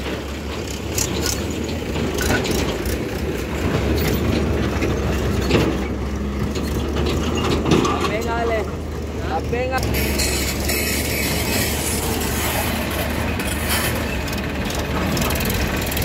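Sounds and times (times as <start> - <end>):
clanks and rattles: 0.0 - 16.0
tractor engines humming: 0.0 - 16.0.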